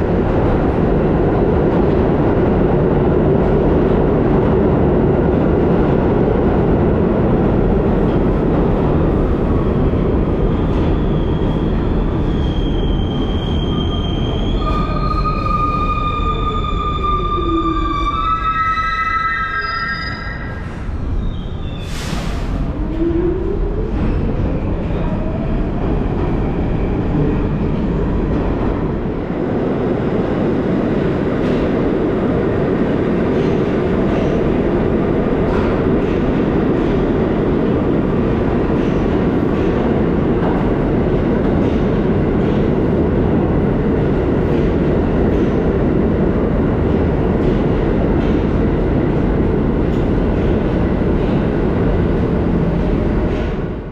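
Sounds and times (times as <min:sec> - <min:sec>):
subway train wheels rumbling: 0:00.0 - 0:53.9.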